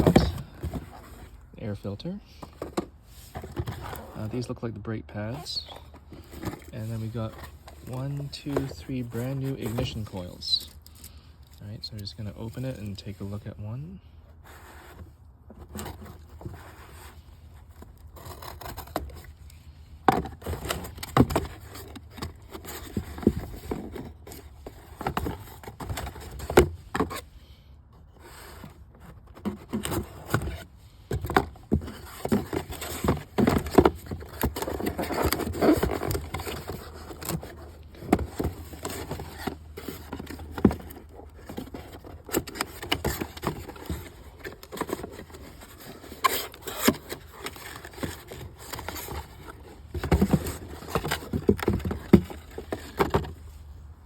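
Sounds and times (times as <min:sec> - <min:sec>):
packaging being handled and opened: 0:00.0 - 0:13.5, 0:15.6 - 0:27.4, 0:28.2 - 0:54.0.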